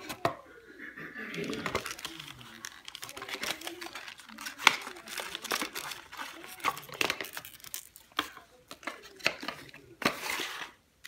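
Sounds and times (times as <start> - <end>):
plastic bags crinkling: 1.3 - 10.7.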